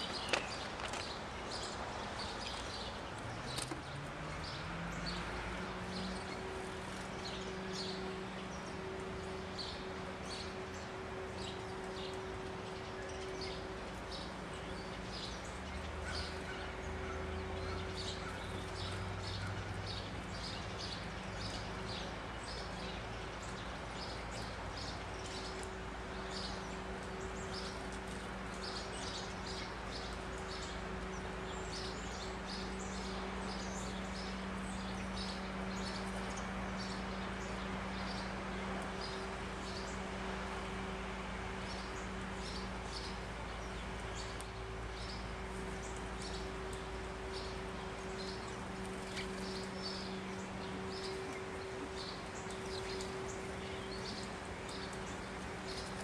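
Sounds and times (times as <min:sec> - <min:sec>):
small birds chirping: 0:00.0 - 0:56.0
steady low hum: 0:00.0 - 0:56.0.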